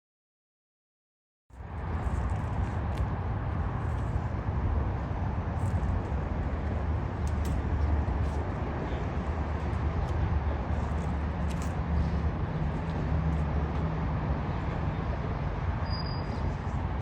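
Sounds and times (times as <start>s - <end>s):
vehicle engine low rumble: 1.6s - 17.0s.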